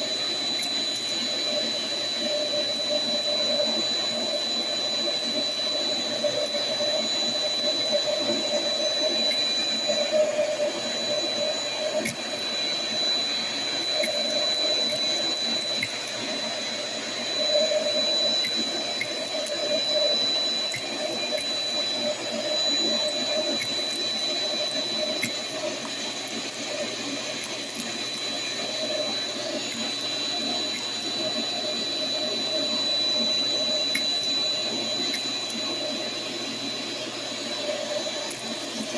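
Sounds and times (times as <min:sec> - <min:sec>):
shop vac whining: 0:00.0 - 0:38.9.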